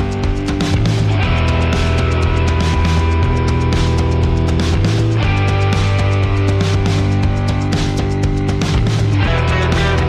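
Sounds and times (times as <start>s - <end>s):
guitar rock music: 0.0s - 10.0s.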